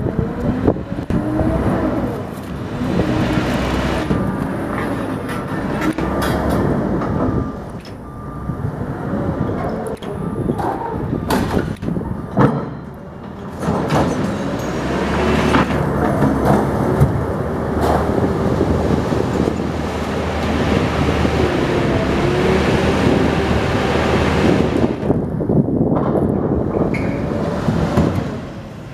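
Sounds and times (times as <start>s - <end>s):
heavy machine engine running: 0.0s - 28.9s.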